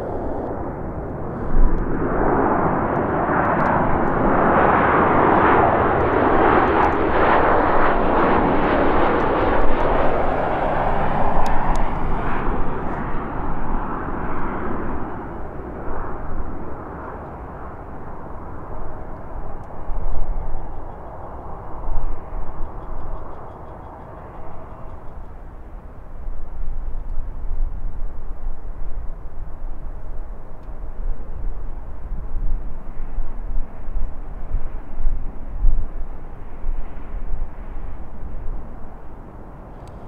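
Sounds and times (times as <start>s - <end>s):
jet airliner roar: 0.0s - 40.0s.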